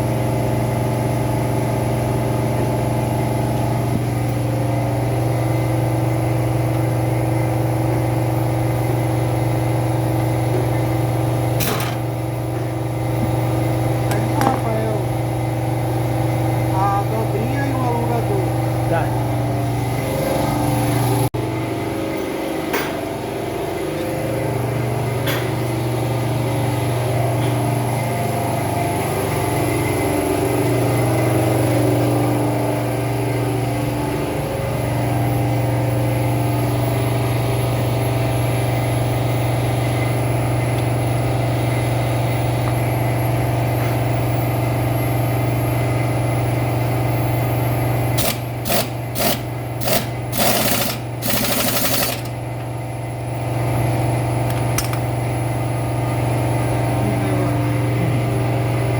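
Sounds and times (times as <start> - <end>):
machine humming: 4.1 - 58.9.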